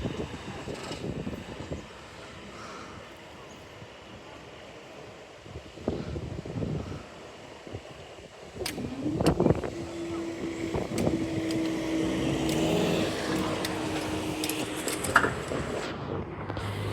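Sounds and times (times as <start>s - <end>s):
vehicle engines and tyres: 0.0s - 16.9s.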